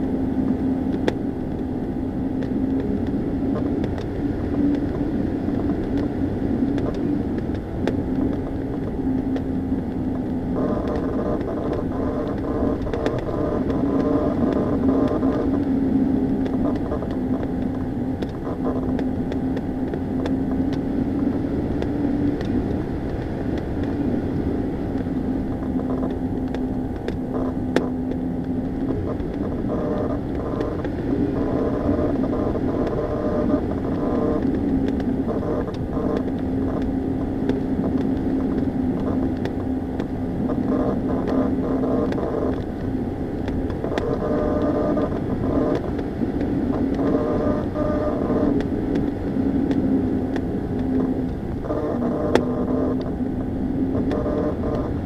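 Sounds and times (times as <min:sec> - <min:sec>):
piston engine droning: 0:00.0 - 0:55.0.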